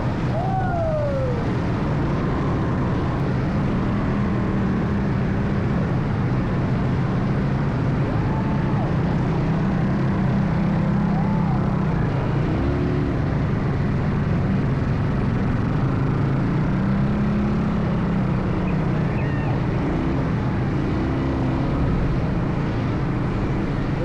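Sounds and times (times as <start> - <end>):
atv engine running: 0.0 - 24.0
rough road noise: 0.0 - 24.0.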